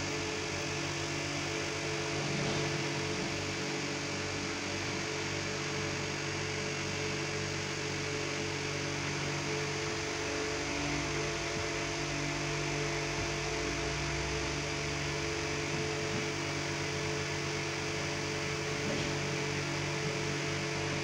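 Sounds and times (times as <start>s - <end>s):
excavator diesel engine humming: 0.0s - 21.0s.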